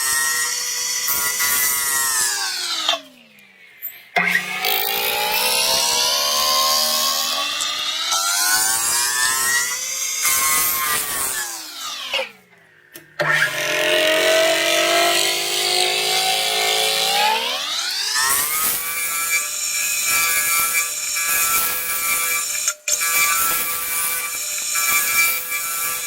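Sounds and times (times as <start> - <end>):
power tool motor running: 0.0 - 3.2, 4.2 - 12.4, 13.2 - 26.0.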